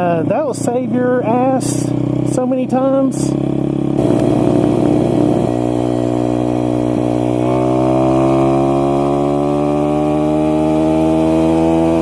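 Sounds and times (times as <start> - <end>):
motorbike engine accelerating: 0.0 - 12.0.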